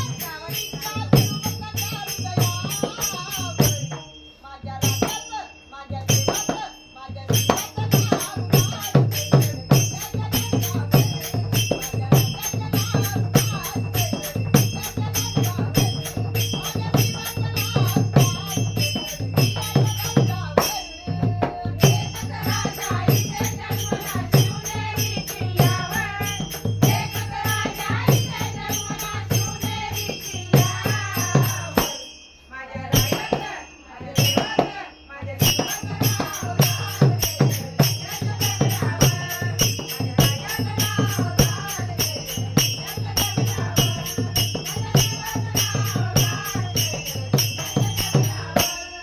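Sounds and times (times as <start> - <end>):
steady drum beat: 0.0 - 4.1, 5.9 - 49.0
rattling shaker percussion: 0.0 - 49.0.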